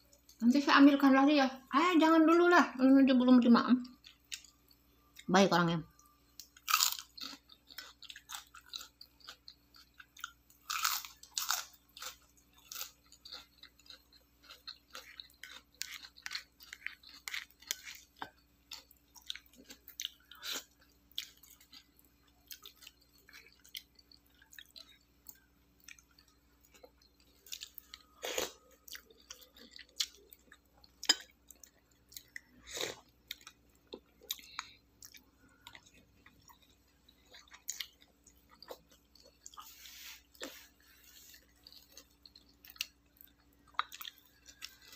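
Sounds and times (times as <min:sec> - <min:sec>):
person chewing crisp food: 0:03.9 - 0:05.3, 0:06.4 - 0:44.9.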